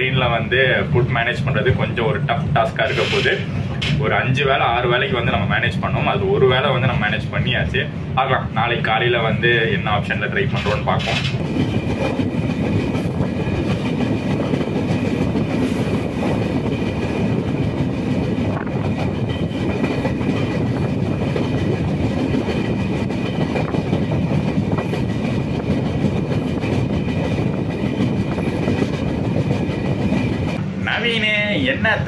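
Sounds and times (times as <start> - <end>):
train wheels on rails: 0.0 - 4.2, 9.8 - 32.0.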